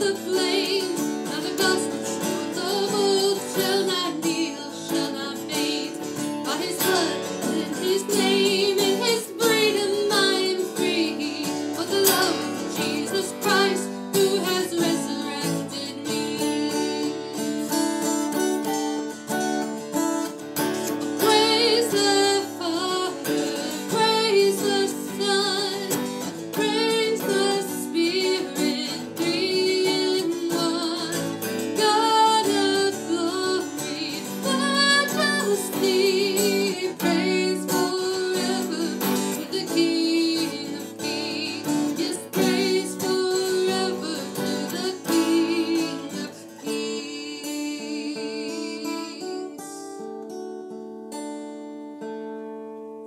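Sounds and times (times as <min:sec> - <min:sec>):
woman singing with vibrato: 0:00.0 - 0:18.8, 0:20.8 - 0:50.0
strummed acoustic guitar: 0:00.0 - 0:53.0.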